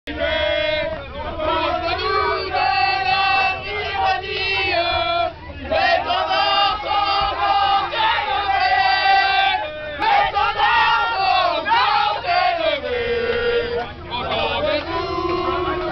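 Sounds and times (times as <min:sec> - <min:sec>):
group singing and chanting: 0:00.1 - 0:15.9
low bus engine rumble: 0:00.1 - 0:15.9.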